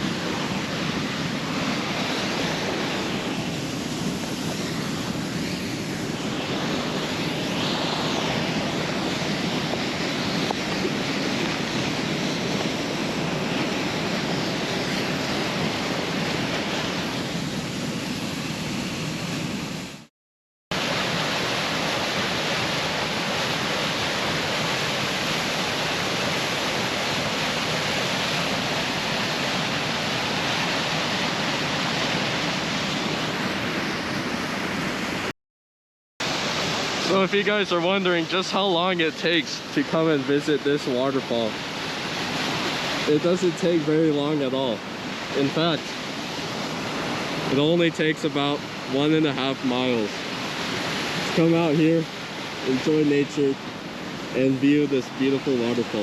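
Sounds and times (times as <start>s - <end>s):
waterfall roaring: 0.0s - 20.0s, 20.8s - 35.3s, 36.2s - 56.0s.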